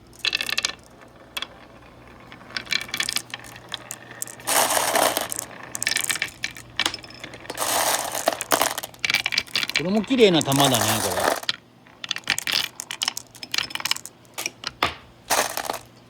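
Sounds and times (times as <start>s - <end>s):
marbles clattering down wooden track: 0.0s - 16.0s.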